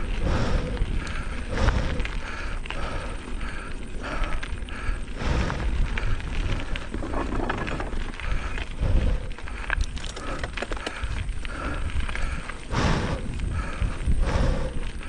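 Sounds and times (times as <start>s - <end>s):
bike clicks and rattles: 0.0s - 15.0s
bike tyres rumbling on dirt: 0.0s - 15.0s
wind on microphone: 0.0s - 15.0s.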